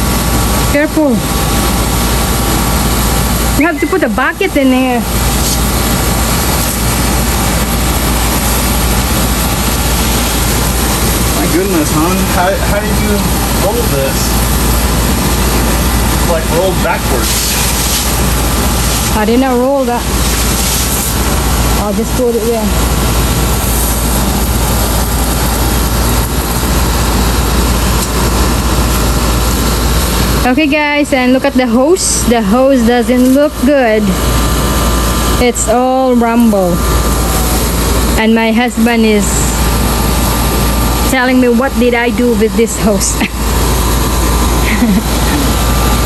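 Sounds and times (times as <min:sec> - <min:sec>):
air conditioner unit drone: 0:00.0 - 0:46.0
deep hum: 0:00.0 - 0:46.0.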